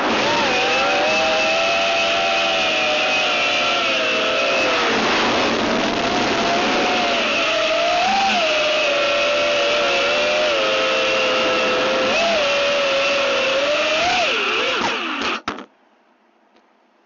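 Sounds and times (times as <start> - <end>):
quadcopter motors buzzing whine: 0.0 - 15.4.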